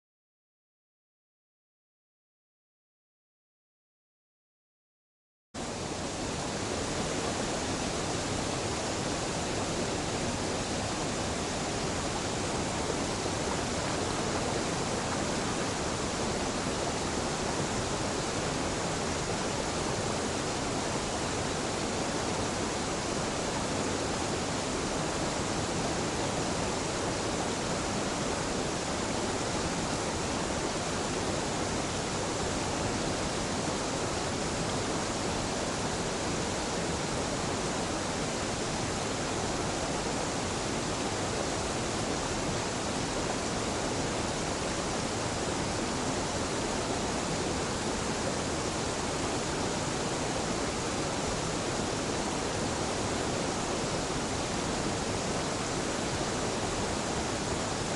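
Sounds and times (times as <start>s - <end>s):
waterfall rushing: 5.6s - 57.9s.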